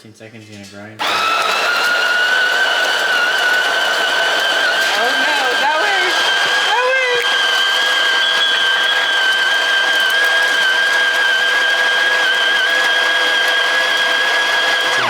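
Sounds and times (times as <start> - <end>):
coffee grinder running: 1.0 - 15.0.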